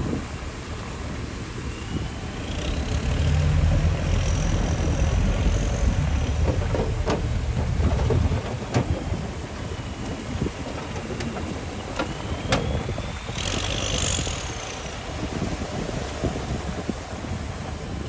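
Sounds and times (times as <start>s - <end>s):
heavy diesel engine under load: 0.0s - 18.0s.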